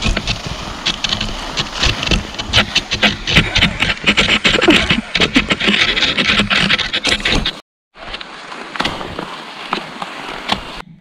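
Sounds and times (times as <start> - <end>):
skis scraping on snow: 0.0 - 10.8.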